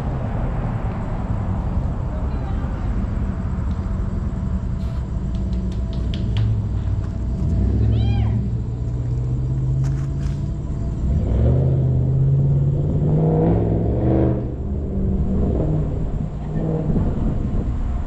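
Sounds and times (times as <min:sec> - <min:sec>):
car engine humming and revving: 0:00.0 - 0:18.0.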